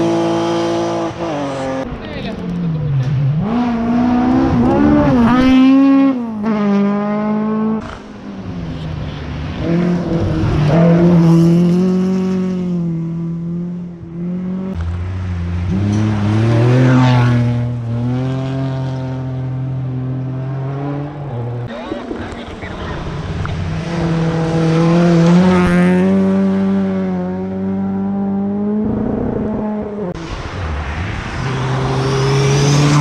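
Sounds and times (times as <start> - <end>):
rally cars revving past: 0.0 - 33.0.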